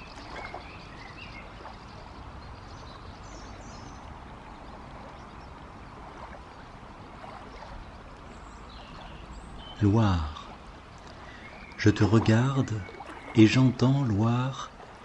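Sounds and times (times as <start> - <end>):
river current rushing: 0.0 - 15.0.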